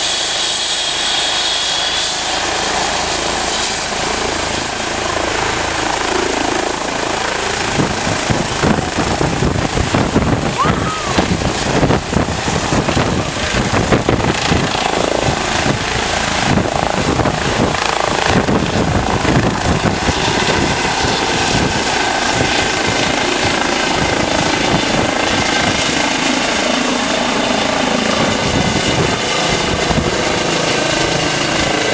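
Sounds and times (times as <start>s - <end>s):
helicopter turbine whine and rotor chop: 0.0s - 31.9s.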